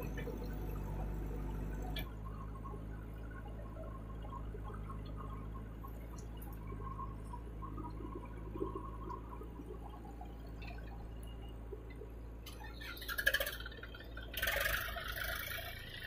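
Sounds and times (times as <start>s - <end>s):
diesel engines humming: 0.0s - 16.0s
tractor rattling and hissing: 0.0s - 16.0s.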